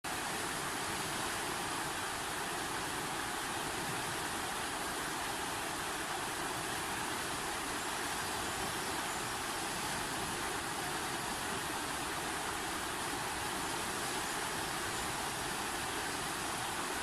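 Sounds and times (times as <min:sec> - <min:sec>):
water rushing: 0:00.1 - 0:17.0.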